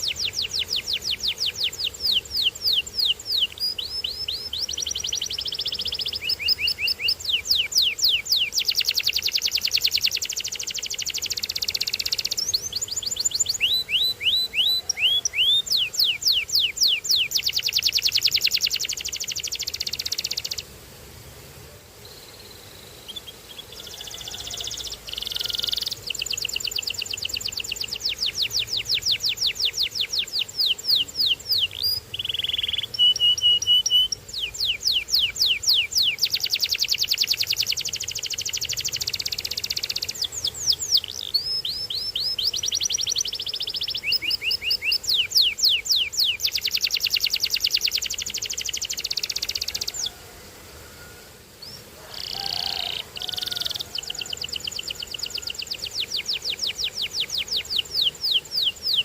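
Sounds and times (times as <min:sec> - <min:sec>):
canary singing trills: 0:00.0 - 0:20.7, 0:22.1 - 0:50.2, 0:51.6 - 0:59.0.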